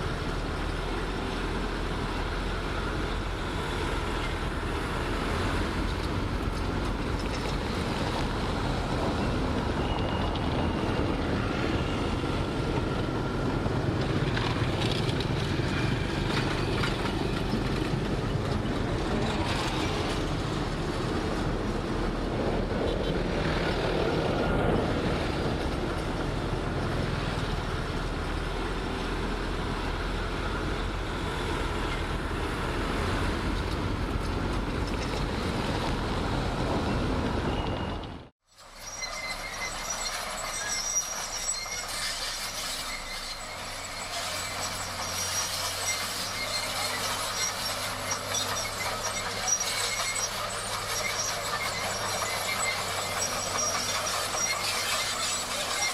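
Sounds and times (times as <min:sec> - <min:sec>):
heavy diesel machinery rumbling: 0:00.0 - 0:55.9.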